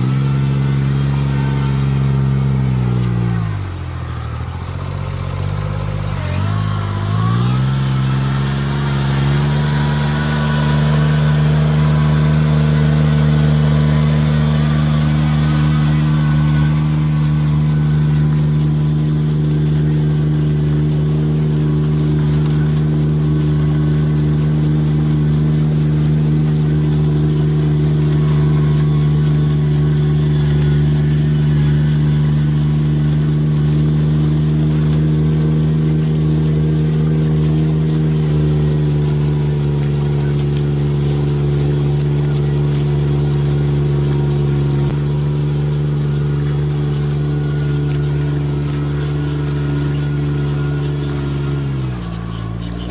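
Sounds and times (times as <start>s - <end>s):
engine running under load: 0.0s - 52.9s.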